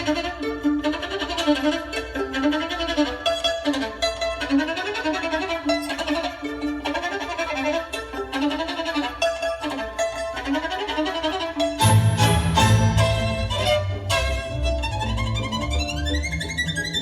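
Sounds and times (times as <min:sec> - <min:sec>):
bowed fiddle melody: 0:00.0 - 0:17.0.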